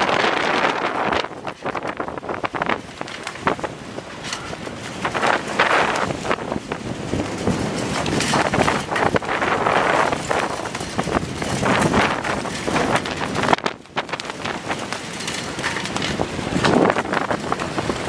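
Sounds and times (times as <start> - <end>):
choppy sea rushing: 0.0 - 18.0
wind buffeting microphone: 0.0 - 18.0.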